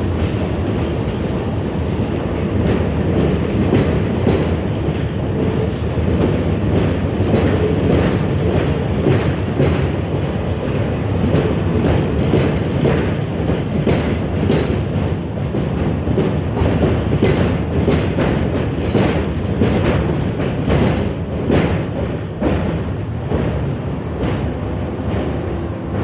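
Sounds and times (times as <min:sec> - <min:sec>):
subway train rumble: 0:00.0 - 0:26.0
train wheels clacking over rail joints: 0:00.2 - 0:23.7.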